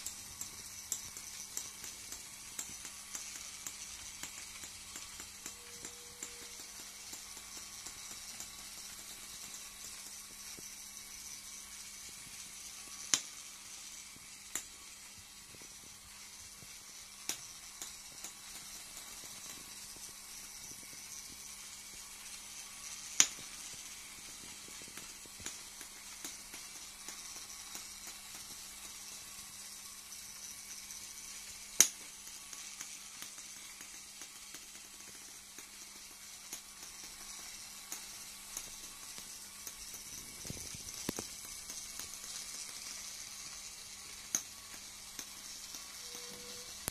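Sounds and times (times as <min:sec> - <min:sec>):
toy train motor hum: 0:00.0 - 0:46.9.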